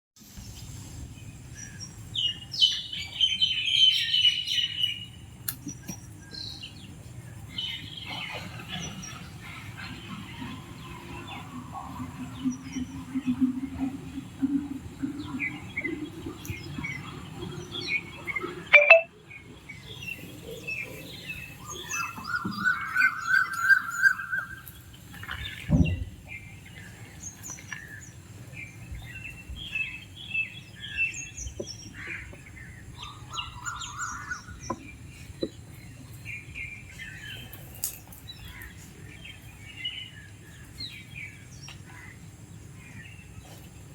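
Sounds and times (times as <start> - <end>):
small birds chirping: 0.4 - 43.9.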